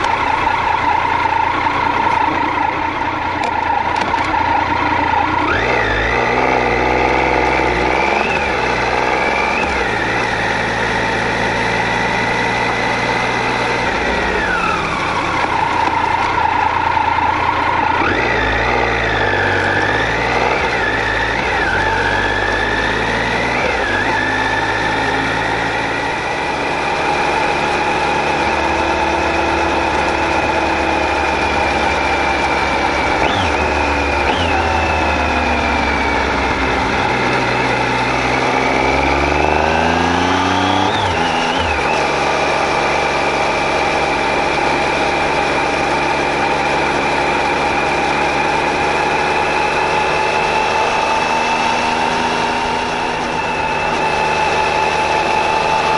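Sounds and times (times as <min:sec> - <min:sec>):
motorcycle engine under way: 0:00.0 - 0:55.9
road and wind noise: 0:00.0 - 0:55.9.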